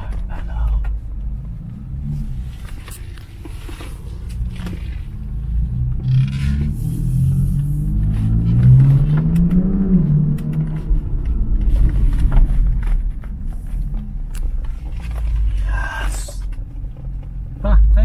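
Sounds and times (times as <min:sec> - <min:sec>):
car engine accelerating: 0:00.0 - 0:18.0
engine and road rumble: 0:00.0 - 0:18.0.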